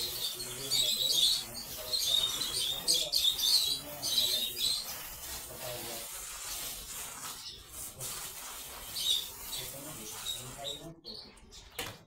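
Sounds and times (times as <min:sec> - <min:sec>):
lovebirds chirping and squawking: 0:00.0 - 0:12.0.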